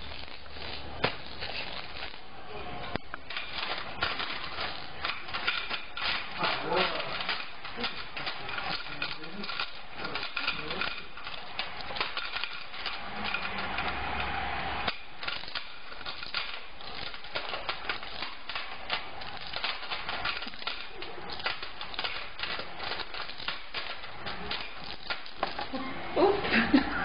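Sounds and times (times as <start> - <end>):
steady hum: 0.0 - 27.0
toys clattering on metal tray: 3.2 - 14.0, 14.9 - 25.7.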